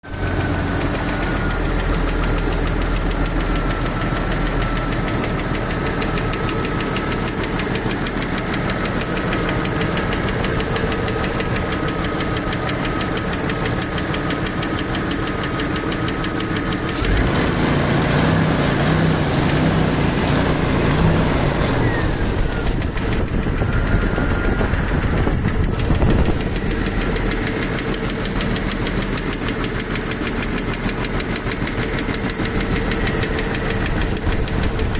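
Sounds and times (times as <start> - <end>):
car engine running: 0.0 - 34.9
fast steady engine ticking: 0.0 - 34.9.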